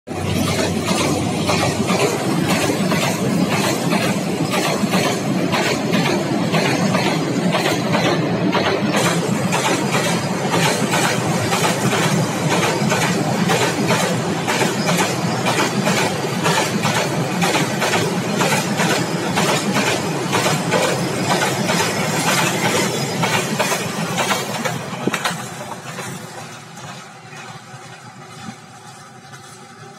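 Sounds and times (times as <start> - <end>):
clickety-clack over rail joints: 0.1 - 29.9
freight train wheels on rails: 0.1 - 29.9.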